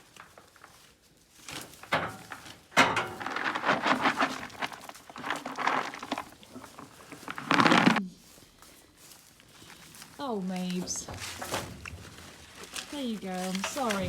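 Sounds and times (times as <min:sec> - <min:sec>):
sheep shuffling in straw: 0:00.0 - 0:14.0.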